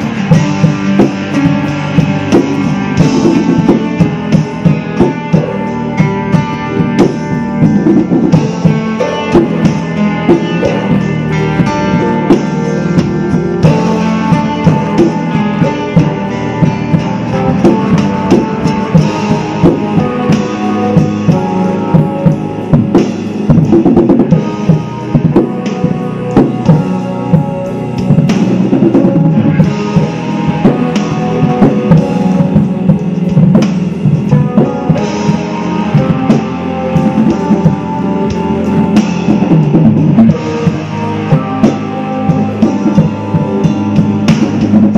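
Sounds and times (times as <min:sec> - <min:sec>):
drum kit and cymbals: 0:00.0 - 0:44.9
rock guitar backing track: 0:00.0 - 0:44.9.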